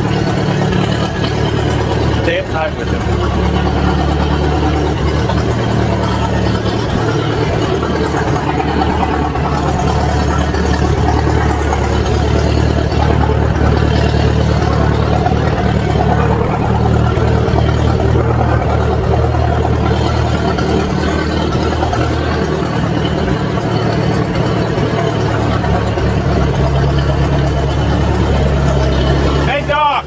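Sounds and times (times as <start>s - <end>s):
backhoe engine running steadily: 0.0s - 30.0s.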